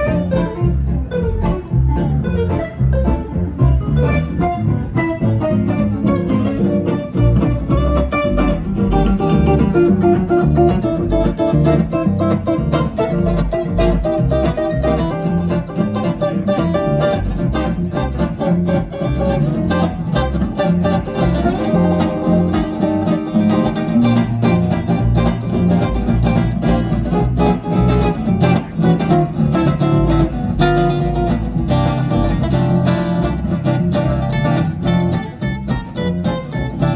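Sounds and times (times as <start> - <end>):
acoustic guitars playing: 0.0 - 36.9
walking double bass: 0.0 - 36.9.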